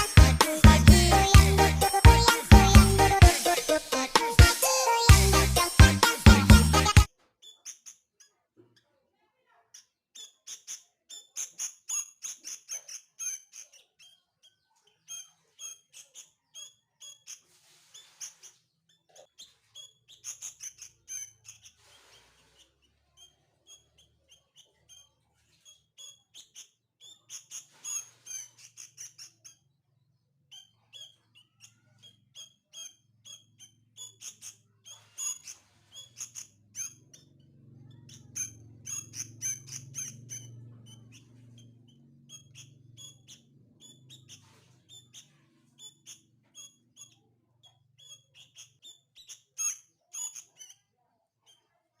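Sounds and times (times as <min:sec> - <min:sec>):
bird chick chirping: 0:00.0 - 0:07.9, 0:10.3 - 0:52.0.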